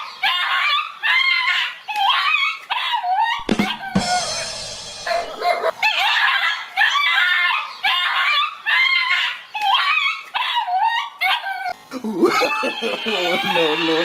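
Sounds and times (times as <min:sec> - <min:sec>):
animal high-pitched calls: 0:00.0 - 0:14.0.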